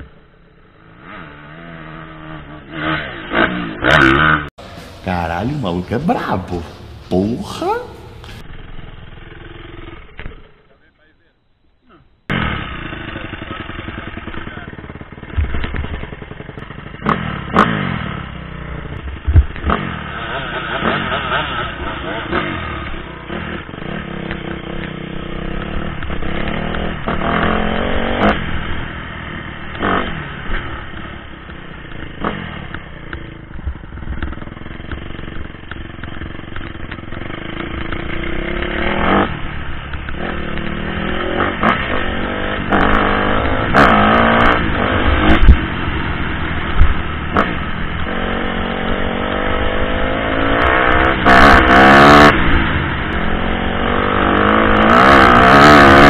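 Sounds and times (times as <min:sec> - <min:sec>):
dirt bike engine revving: 0:00.0 - 0:10.8, 0:12.3 - 0:56.0.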